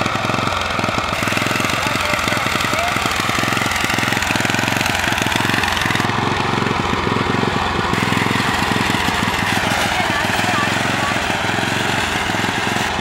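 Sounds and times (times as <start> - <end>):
small mower engine idling: 0.0 - 13.0.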